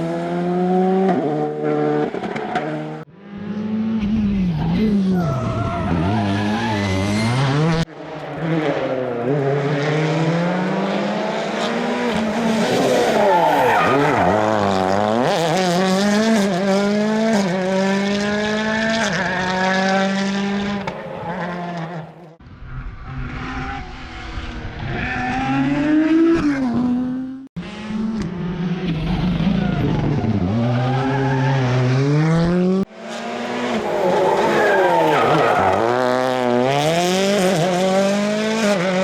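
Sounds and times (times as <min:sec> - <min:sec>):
rally car engines revving: 0:00.0 - 0:22.4, 0:23.0 - 0:39.0.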